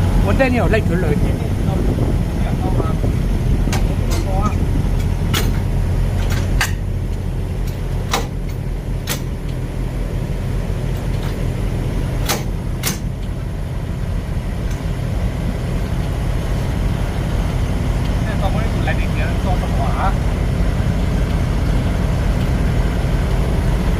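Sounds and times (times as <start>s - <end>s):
truck engine rumbling: 0.0s - 23.9s.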